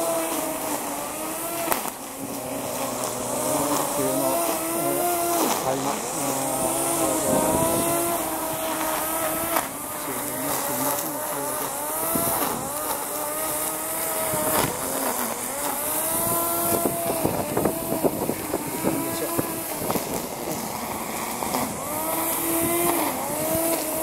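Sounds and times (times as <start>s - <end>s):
grass trimmer motor running: 0.0s - 24.0s.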